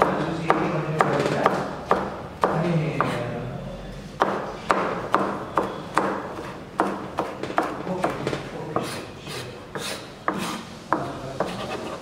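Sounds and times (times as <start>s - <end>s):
knife chopping on plastic board: 0.0s - 3.2s, 4.2s - 11.6s.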